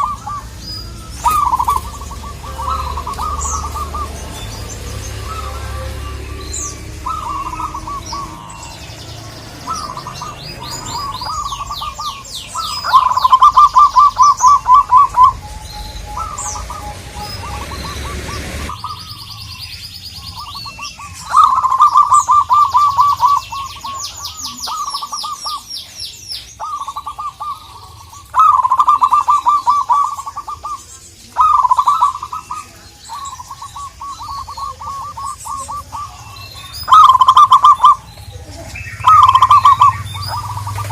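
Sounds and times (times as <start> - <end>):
doves cooing: 0.0 - 40.9
small birds thin high chirps: 0.0 - 40.9.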